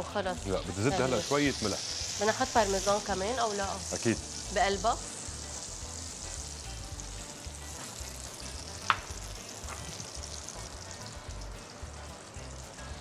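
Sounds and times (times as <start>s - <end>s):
butter sizzling in frying pan: 0.0s - 13.0s.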